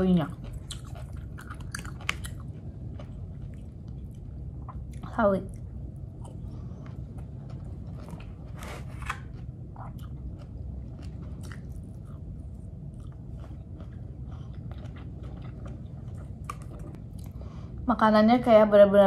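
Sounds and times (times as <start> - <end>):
person chewing and crunching food: 0.0 - 17.5
steady low hum: 0.0 - 19.0.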